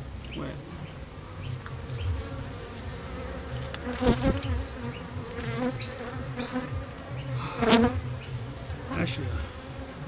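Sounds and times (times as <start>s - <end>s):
bee buzzing past close: 0.0s - 10.0s
bees buzzing: 0.0s - 10.0s.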